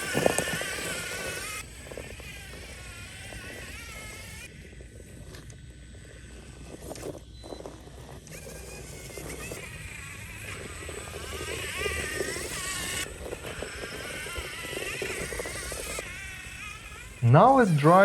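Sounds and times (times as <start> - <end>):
electric motor whining: 0.0 - 18.0
tyres rumbling on rock: 0.0 - 18.0.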